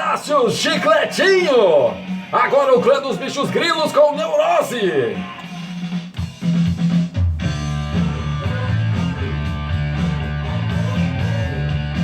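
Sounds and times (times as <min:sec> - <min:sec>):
rock band playing: 0:00.3 - 0:12.0.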